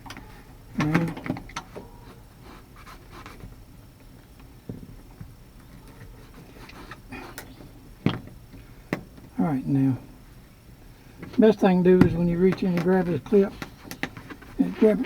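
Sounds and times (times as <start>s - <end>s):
clicks and rustles inside door: 0.0s - 15.0s.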